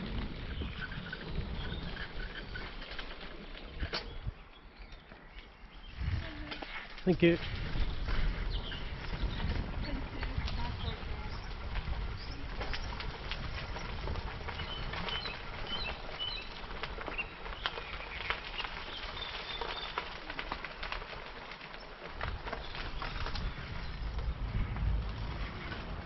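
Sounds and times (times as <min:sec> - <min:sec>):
birds chirping: 0:00.0 - 0:20.0, 0:21.8 - 0:26.0
bicycle tyres on gravel: 0:00.0 - 0:26.0.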